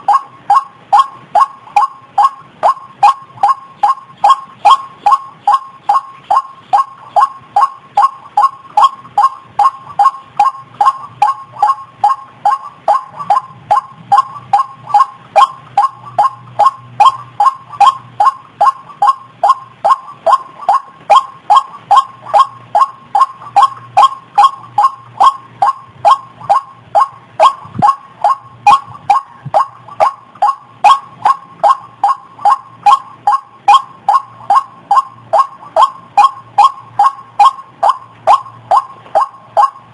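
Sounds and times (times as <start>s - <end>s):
waterhen calling: 0.0s - 39.9s.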